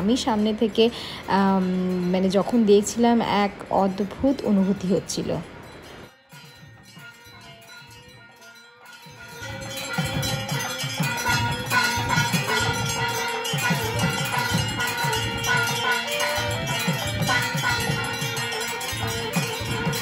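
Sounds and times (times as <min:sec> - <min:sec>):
metal temple bells ringing: 0:00.0 - 0:20.0.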